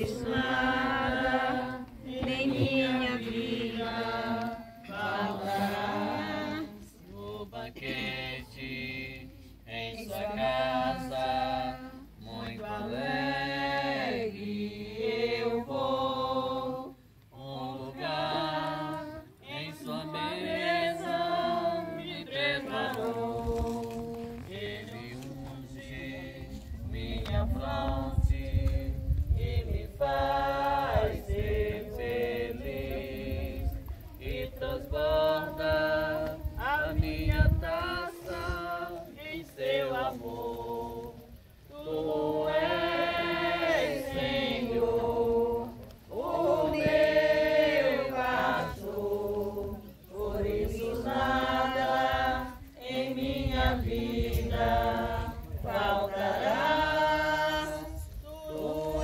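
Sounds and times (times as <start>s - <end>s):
crowd singing a hymn: 0.0s - 59.0s.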